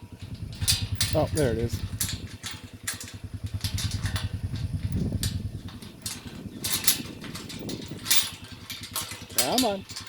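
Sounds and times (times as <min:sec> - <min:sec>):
engine idling: 0:00.0 - 0:10.0
short clicks and rustles: 0:00.2 - 0:10.0.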